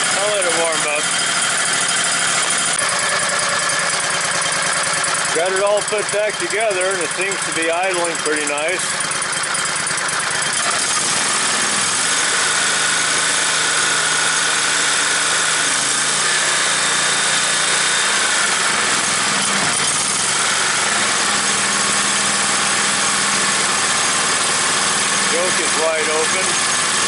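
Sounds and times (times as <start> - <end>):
stump grinder engine idling: 0.0 - 27.0.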